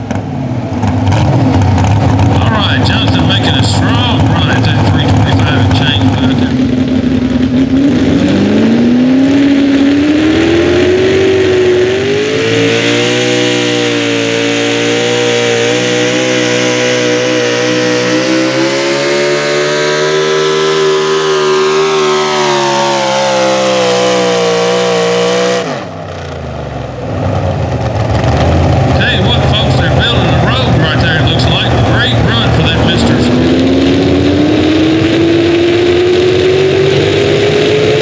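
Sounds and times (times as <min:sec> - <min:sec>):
tractor engine at full throttle: 0:00.0 - 0:38.0.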